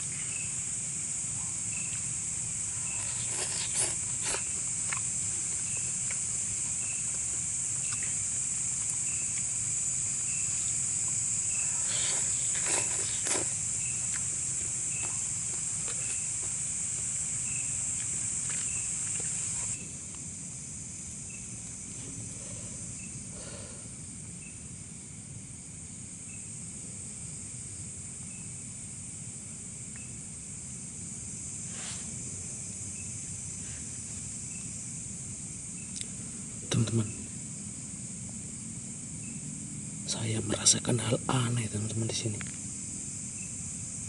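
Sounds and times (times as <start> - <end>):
cricket chirping: 0.0 - 44.0
insects buzzing: 0.0 - 44.0.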